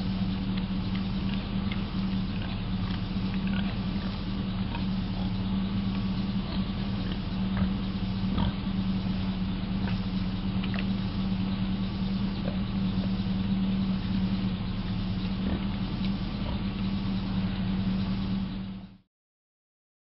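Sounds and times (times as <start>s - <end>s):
low motor hum: 0.0s - 19.1s.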